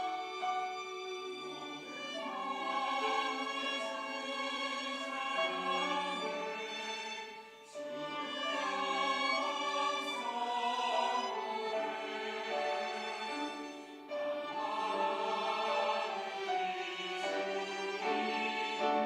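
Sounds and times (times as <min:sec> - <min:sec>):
choir singing with accompaniment: 0:00.0 - 0:19.0.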